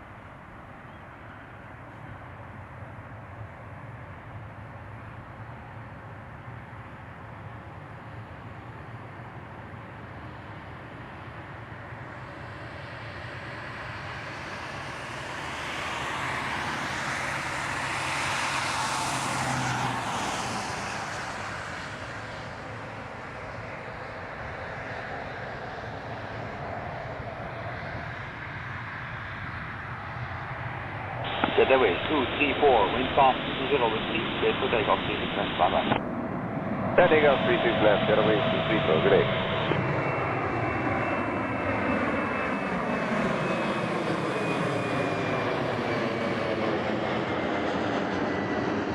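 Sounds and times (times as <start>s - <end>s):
jet airliner engines at takeoff: 0.0s - 48.9s.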